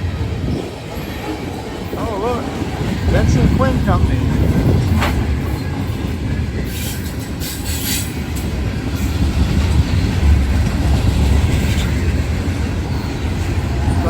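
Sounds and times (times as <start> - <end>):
freight train wheels rumbling on track: 0.0 - 14.0.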